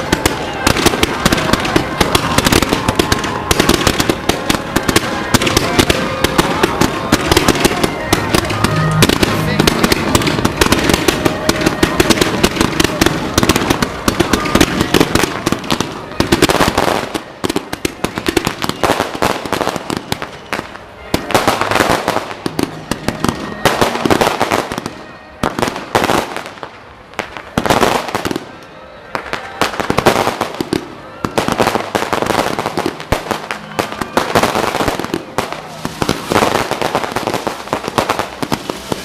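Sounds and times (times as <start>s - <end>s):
firecrackers popping: 0.0s - 39.0s.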